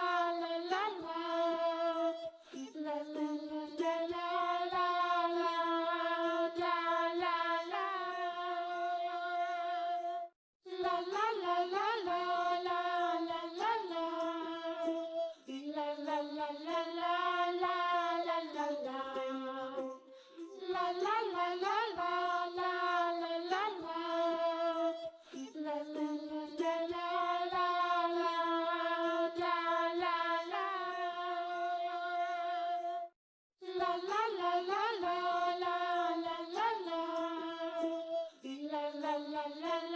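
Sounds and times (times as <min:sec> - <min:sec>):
child-like voice singing: 0:00.0 - 0:33.0, 0:33.6 - 0:39.9.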